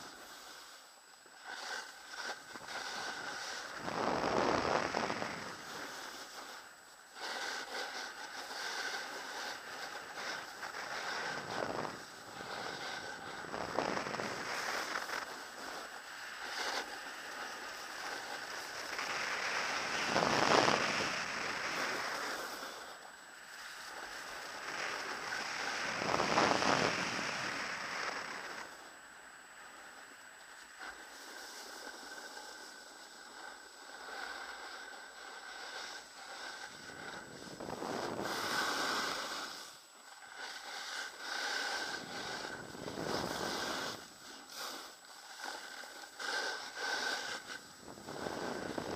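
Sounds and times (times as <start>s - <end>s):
skis sliding over snow: 0.0s - 48.9s.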